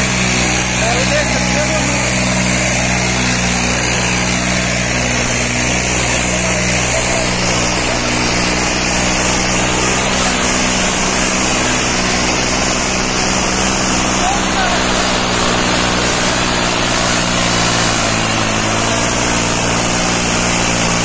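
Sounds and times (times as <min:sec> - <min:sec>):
tractor diesel engine running hard: 0:00.0 - 0:21.0.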